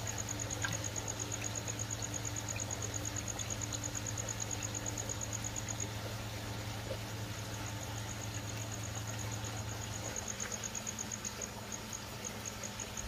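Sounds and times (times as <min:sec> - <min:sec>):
pump humming: 0:00.0 - 0:13.0
water bubbling and churning: 0:00.0 - 0:13.0.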